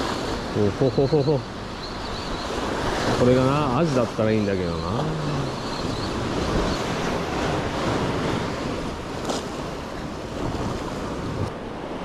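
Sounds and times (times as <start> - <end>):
sea surf rushing: 0.0 - 12.0
wind buffeting microphone: 1.6 - 12.0.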